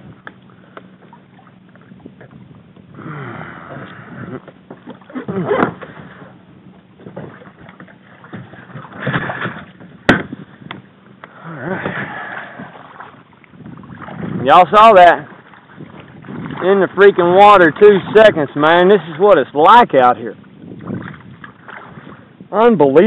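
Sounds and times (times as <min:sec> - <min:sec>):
water splashing against kayak: 0:00.0 - 0:23.0.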